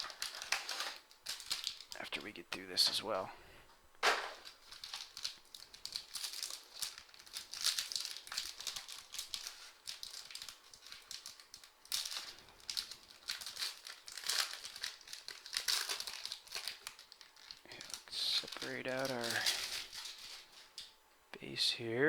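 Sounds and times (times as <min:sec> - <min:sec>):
packaging crinkling and rustling: 0:00.0 - 0:03.2, 0:04.0 - 0:21.0.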